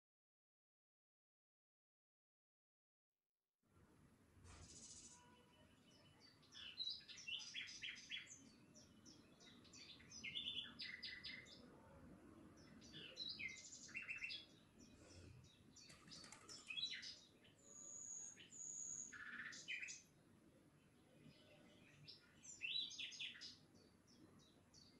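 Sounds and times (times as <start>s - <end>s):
small birds chirping: 4.5s - 24.9s.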